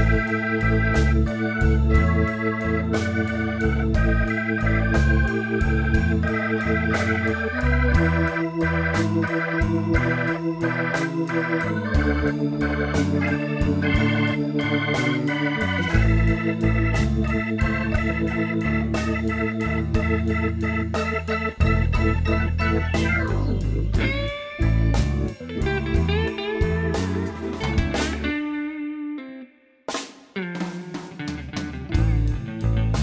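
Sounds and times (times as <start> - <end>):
instrumental background music: 0.0 - 33.0.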